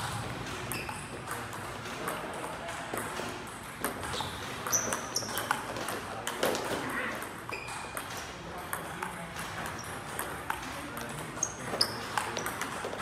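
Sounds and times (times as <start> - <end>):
table tennis ball pinging: 0.0 - 13.0.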